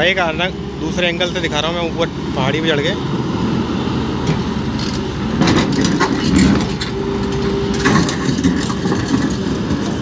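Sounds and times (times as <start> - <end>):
excavator running under load: 0.0 - 10.0.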